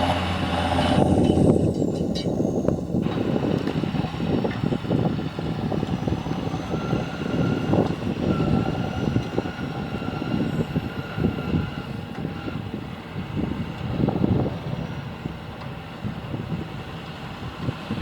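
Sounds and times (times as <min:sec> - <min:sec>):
tractor engine rumbling: 0:00.0 - 0:18.0.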